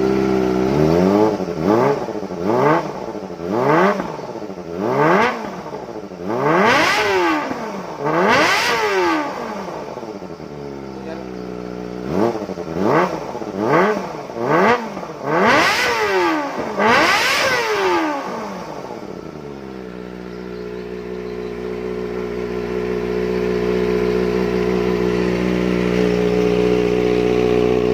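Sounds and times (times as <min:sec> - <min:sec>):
motorcycle engine revving and idling: 0:00.0 - 0:27.9.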